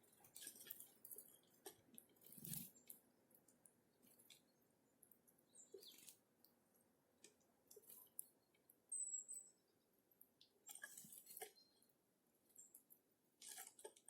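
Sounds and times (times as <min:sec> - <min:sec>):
birds pecking seed: 0:00.0 - 0:14.0.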